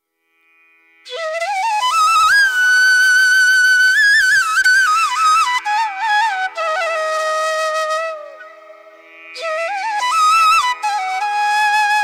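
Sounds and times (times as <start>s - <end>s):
flute melody: 1.1s - 12.0s.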